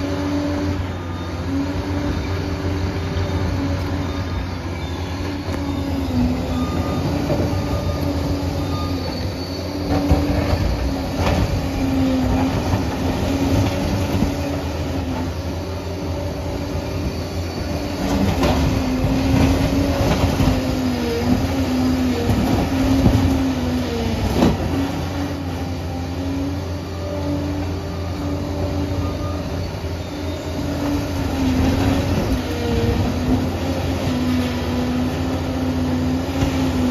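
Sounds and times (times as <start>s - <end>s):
diesel engine running: 0.0s - 36.9s
steel tracks clanking and squealing: 0.0s - 36.9s
wavering whine: 0.0s - 36.9s.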